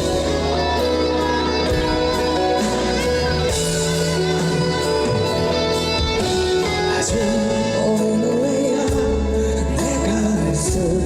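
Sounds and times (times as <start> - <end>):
guitar: 0.0 - 11.0
sustained bass: 0.0 - 11.0.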